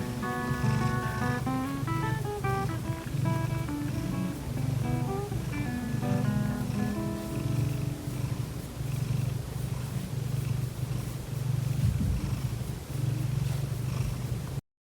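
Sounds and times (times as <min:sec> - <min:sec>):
cat snoring: 0:00.0 - 0:04.8, 0:06.6 - 0:14.6.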